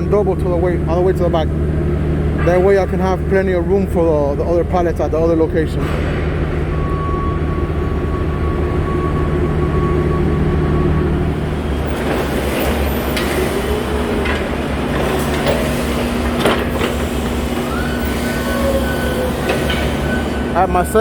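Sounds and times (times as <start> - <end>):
machinery rumble with hum: 0.0 - 21.0
pallets clanking and rattling: 2.2 - 21.0.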